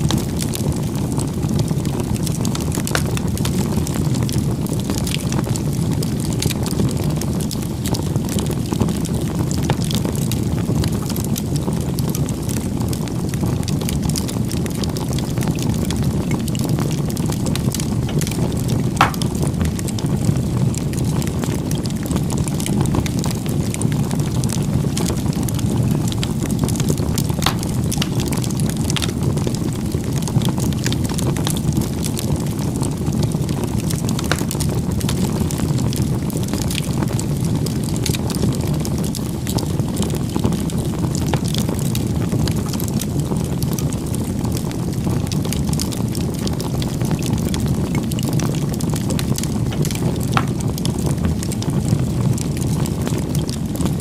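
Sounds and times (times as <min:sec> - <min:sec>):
fire crackles and pops: 0:00.0 - 0:54.0
wood fire burning: 0:00.0 - 0:54.0.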